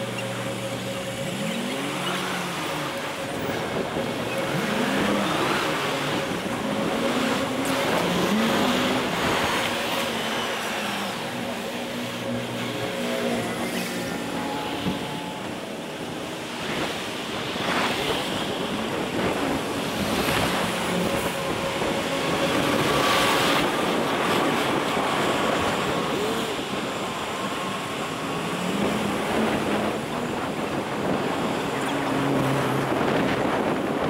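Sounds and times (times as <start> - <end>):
city traffic: 0.0 - 34.0
wind rushing over microphone: 0.0 - 34.0.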